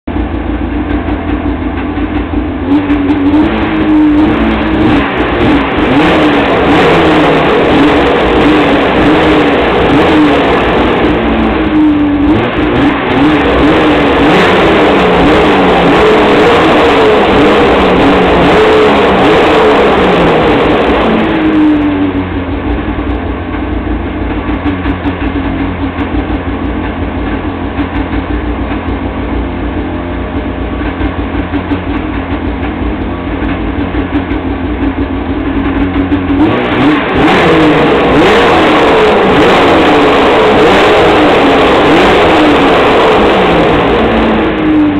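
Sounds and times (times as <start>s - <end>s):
snowmobile engine revving and idling: 0.0s - 44.9s.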